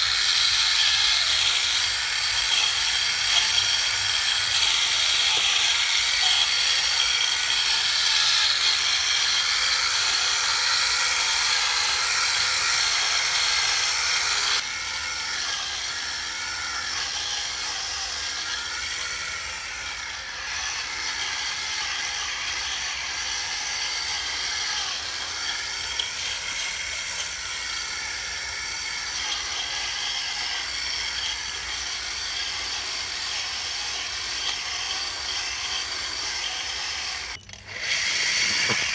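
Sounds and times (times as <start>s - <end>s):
lawn mower motor whirring: 0.0s - 38.9s.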